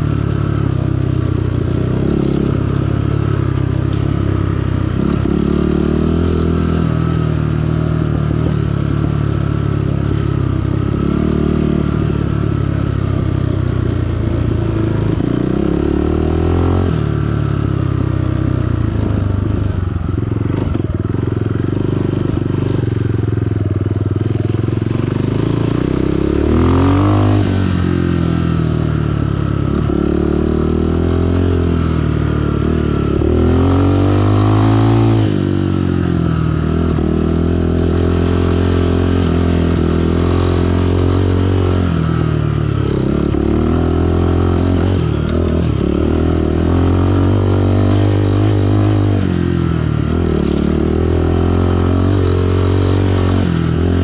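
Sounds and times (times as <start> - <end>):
dirt bike engine revving: 0.0 - 23.3, 24.4 - 54.0.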